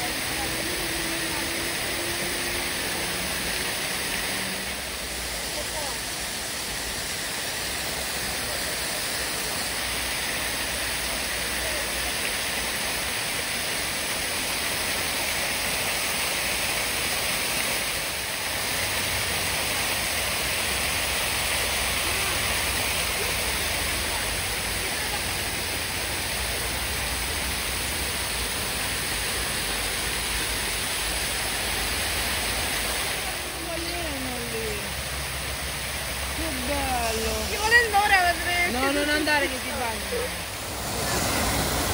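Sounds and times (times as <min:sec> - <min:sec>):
waterfall splashing into a pool: 0:00.0 - 0:41.9.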